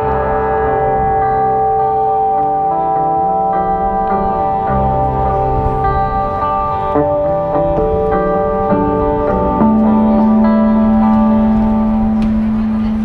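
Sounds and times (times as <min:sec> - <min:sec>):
electric guitar sustained notes: 0:00.0 - 0:13.0.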